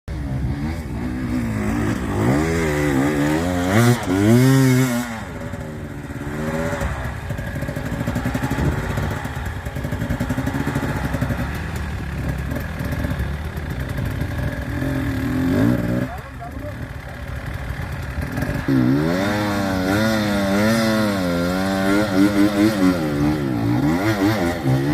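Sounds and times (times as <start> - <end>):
dirt bike engine revving: 0.1 - 24.9.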